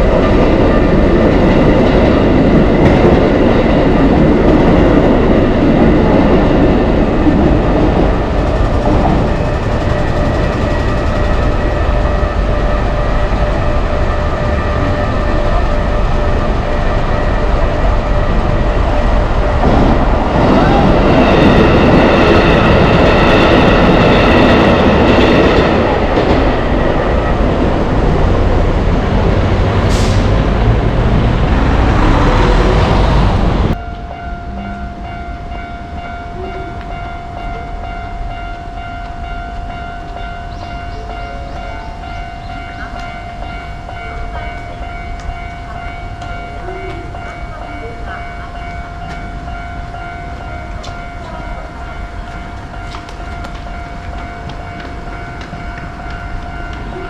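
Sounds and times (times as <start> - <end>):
level crossing warning tone: 0.0 - 57.0
train rolling rumble: 0.0 - 57.0.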